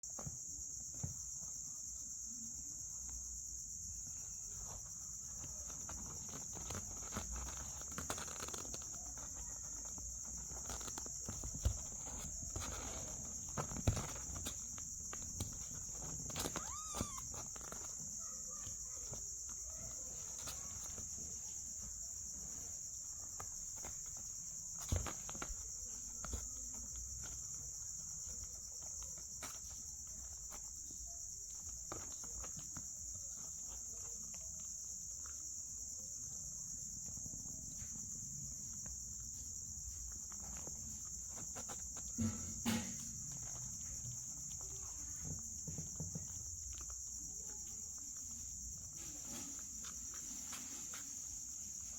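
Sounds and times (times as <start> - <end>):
insect chorus chirring: 0.0 - 51.9.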